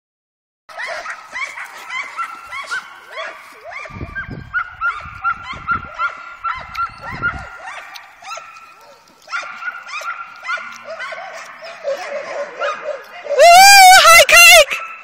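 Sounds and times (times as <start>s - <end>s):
dogs yipping and barking: 0.7s - 15.0s.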